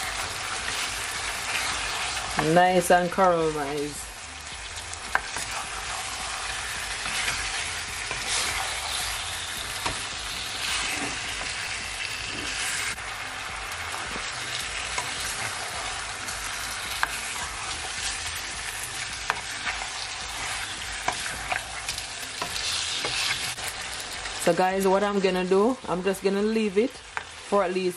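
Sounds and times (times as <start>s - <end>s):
chicken sizzling in a frying pan: 0.0s - 27.9s.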